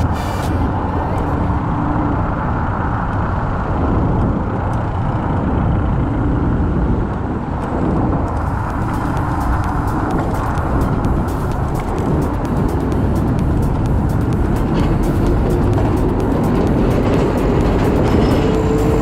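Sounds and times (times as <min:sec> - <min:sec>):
road rumble: 0:00.0 - 0:19.0
wind noise on microphone: 0:00.0 - 0:19.0.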